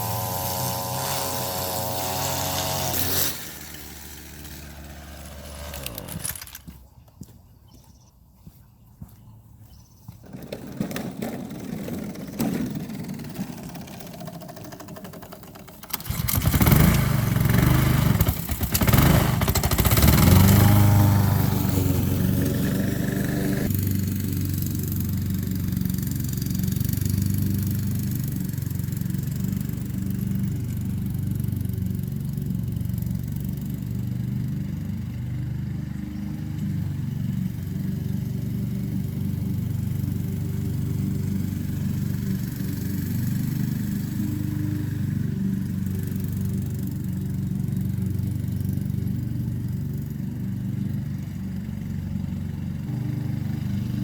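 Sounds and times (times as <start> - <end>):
lawn mower engine running: 0.0 - 7.3, 10.0 - 54.0.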